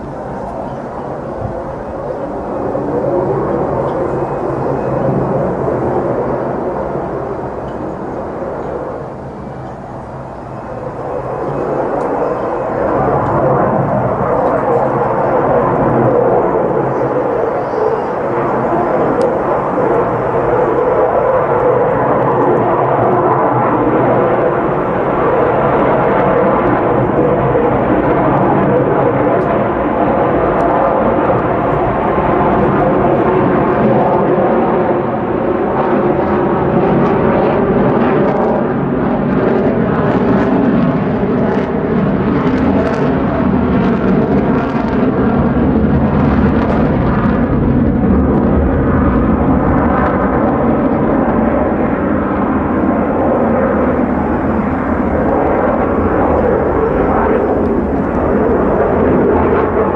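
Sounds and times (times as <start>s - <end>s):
jet fighter loud jet noise: 0.0s - 59.9s.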